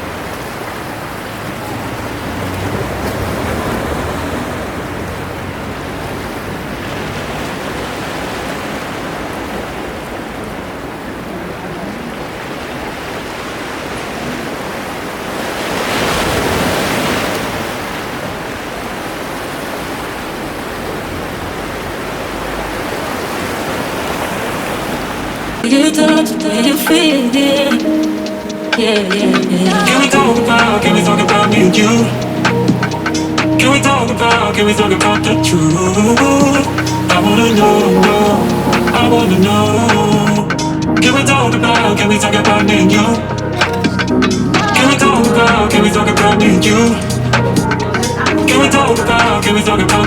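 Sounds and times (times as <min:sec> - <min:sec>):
sea waves washing ashore: 0:00.0 - 0:50.0.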